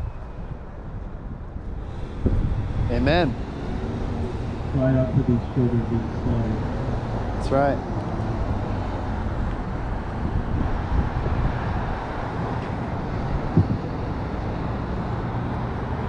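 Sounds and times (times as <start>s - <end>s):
cars and truck driving by: 1.7s - 16.0s.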